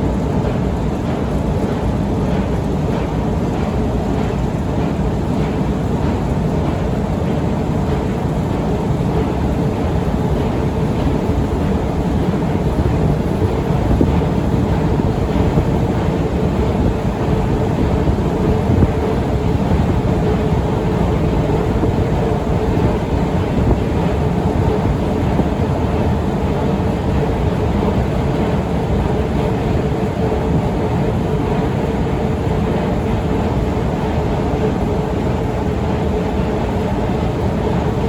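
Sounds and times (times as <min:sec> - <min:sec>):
escalator rumbling: 0:00.0 - 0:38.0
faint constant hum: 0:00.0 - 0:38.0.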